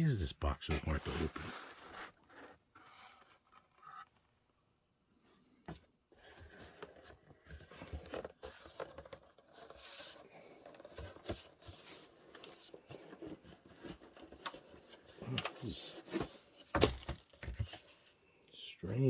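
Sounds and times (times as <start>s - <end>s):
cardboard rubbing and rustling: 0.9s - 4.2s, 6.1s - 18.1s.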